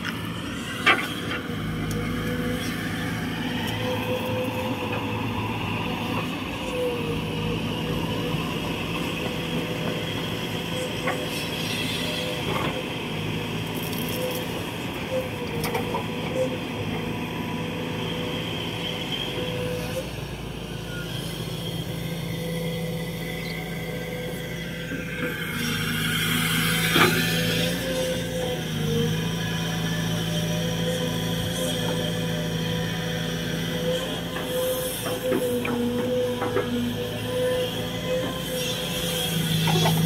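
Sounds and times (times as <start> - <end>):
excavator diesel engine working: 0.0 - 40.0.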